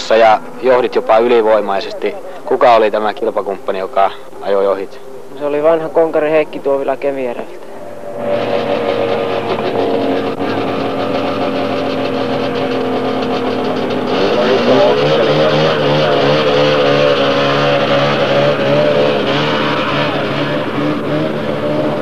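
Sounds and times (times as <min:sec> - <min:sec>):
louder engine wavering pitch: 0:00.0 - 0:22.0
snowmobile engines running: 0:00.0 - 0:22.0.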